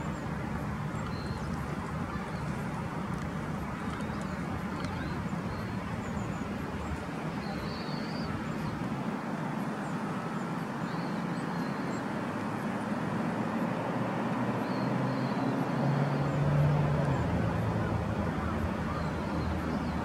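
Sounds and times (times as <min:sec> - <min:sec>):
city background rush: 0:00.0 - 0:20.0.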